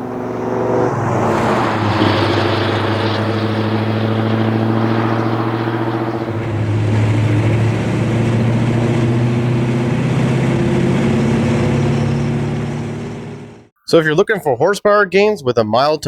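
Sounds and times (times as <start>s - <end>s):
truck engine deep rumble: 0.0s - 13.7s.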